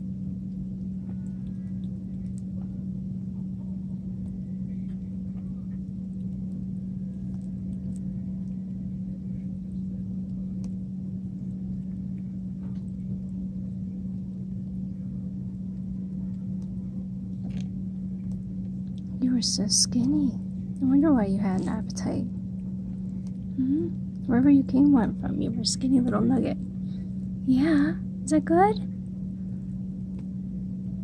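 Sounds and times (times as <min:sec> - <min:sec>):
low rumble: 0:00.0 - 0:31.0
steady low hum: 0:00.0 - 0:31.0.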